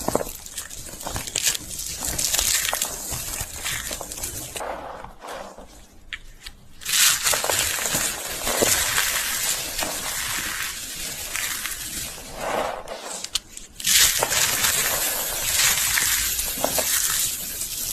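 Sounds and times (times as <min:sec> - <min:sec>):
slate pencils being crunched: 0:00.0 - 0:04.6, 0:06.8 - 0:17.9.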